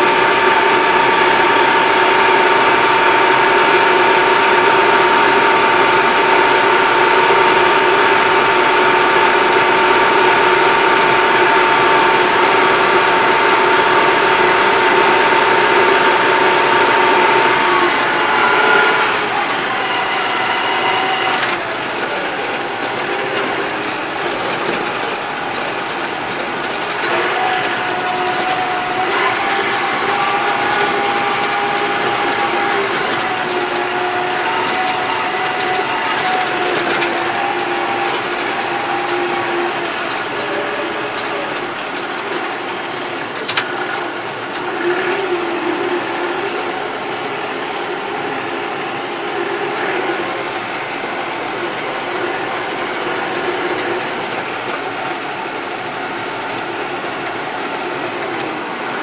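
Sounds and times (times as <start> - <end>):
tractor engine: 0.0 - 59.0
transmission gear whine: 0.0 - 59.0.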